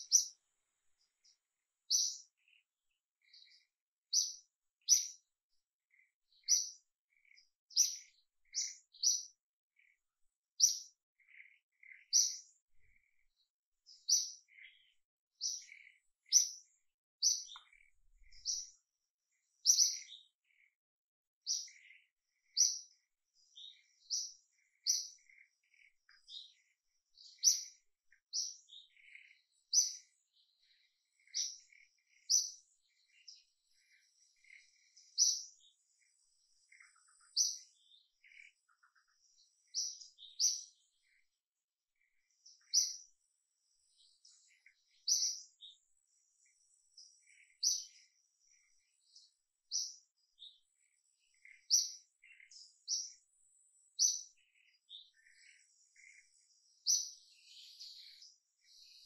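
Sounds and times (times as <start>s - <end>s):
lower bird calls: 0.0s - 0.4s, 1.0s - 5.3s, 5.9s - 20.8s, 21.4s - 41.3s, 42.0s - 43.2s, 43.8s - 59.0s
birds chirping: 0.0s - 59.0s.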